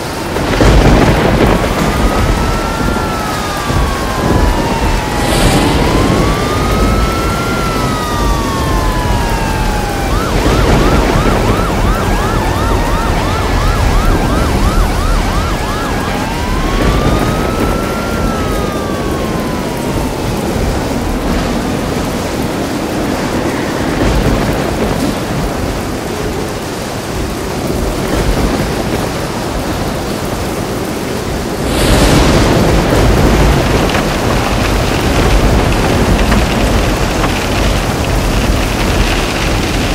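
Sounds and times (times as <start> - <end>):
heavy rain: 0.0 - 39.9
thunder crack: 0.0 - 39.9
emergency siren wailing and yelping: 0.1 - 39.9.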